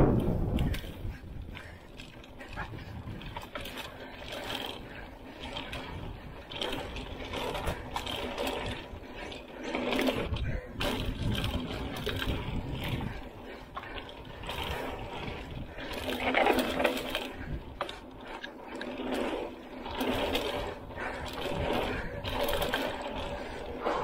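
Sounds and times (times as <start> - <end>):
bike rattling over bumps: 0.0 - 24.0
tyres on dirt and stones: 0.0 - 24.0
wind rumble on camera: 0.0 - 24.0
freewheel hub ticking: 0.1 - 24.0.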